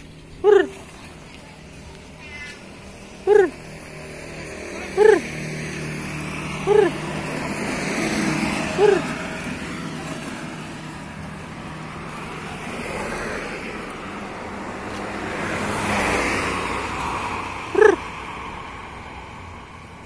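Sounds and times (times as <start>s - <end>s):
road noise: 0.0s - 20.0s
vehicle engine: 0.0s - 20.0s.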